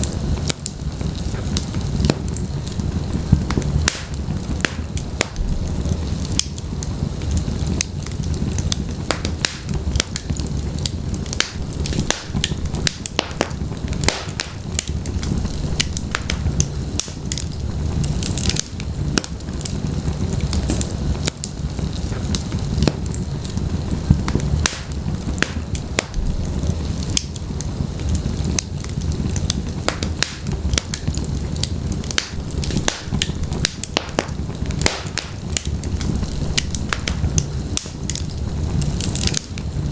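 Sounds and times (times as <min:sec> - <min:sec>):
low rumble of flame: 0:00.0 - 0:39.9
wood crackling and popping: 0:00.0 - 0:39.9.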